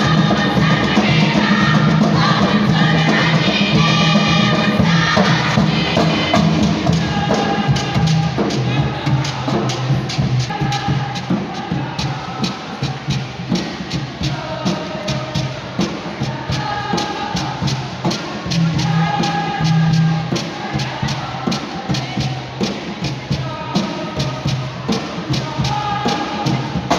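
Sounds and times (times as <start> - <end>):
group of voices singing: 0.0 - 26.9
quick percussion beat: 0.0 - 26.9.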